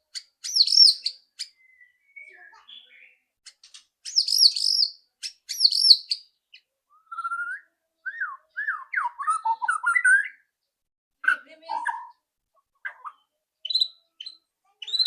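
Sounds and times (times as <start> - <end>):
bird singing: 0.1 - 10.6, 12.8 - 15.0.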